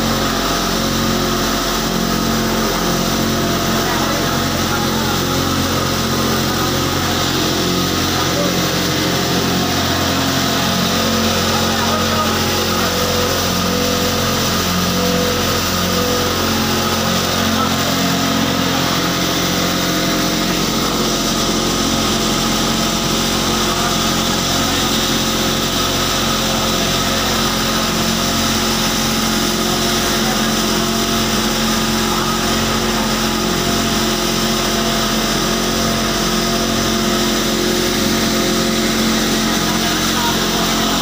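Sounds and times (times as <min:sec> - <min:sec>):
feed pulverizer machine hum: 0:00.0 - 0:41.0.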